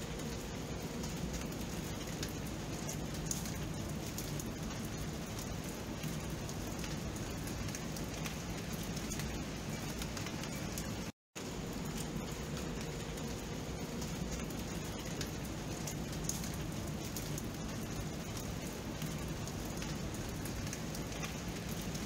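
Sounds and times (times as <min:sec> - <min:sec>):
steady rain hiss: 0:00.0 - 0:22.0
raindrops clicking: 0:00.1 - 0:22.0.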